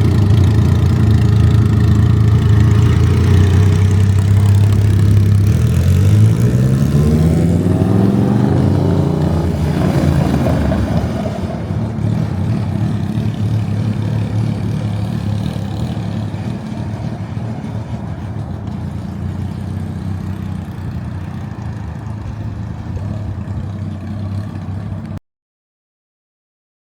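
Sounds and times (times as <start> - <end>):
motorcycle engine revving: 0.0 - 25.2.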